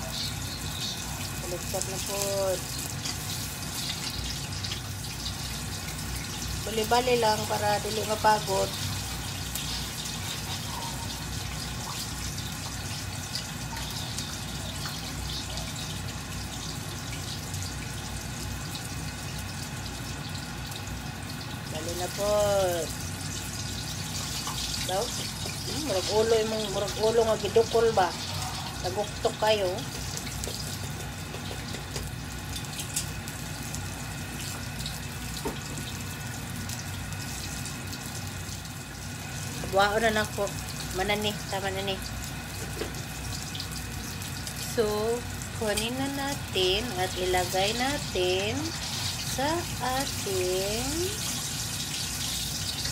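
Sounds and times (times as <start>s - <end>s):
meat deep-frying in hot oil: 0.0s - 52.9s.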